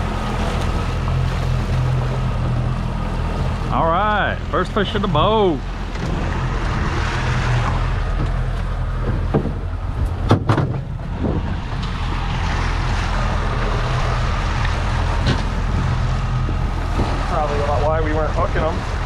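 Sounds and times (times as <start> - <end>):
boat engine running: 0.0 - 19.0
wind and water hiss: 0.0 - 19.0.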